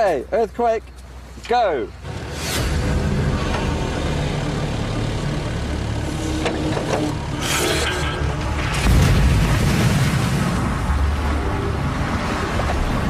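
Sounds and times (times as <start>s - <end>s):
excavator engine running: 1.9s - 13.0s.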